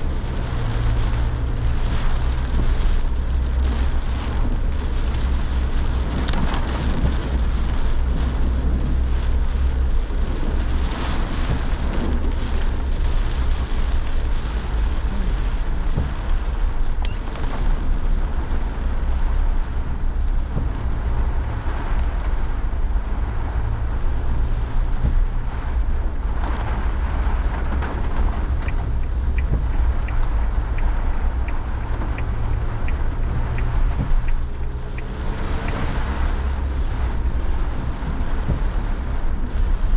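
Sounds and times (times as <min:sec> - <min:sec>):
heavy rain falling: 0:00.0 - 0:39.9
wind buffeting microphone: 0:00.0 - 0:39.9.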